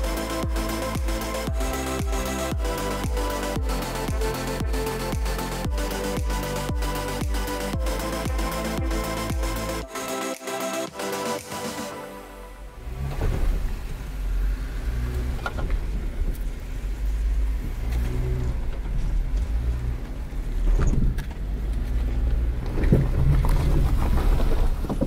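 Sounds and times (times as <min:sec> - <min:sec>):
car engine rumbling at low revs: 0:00.0 - 0:09.8, 0:12.3 - 0:25.0.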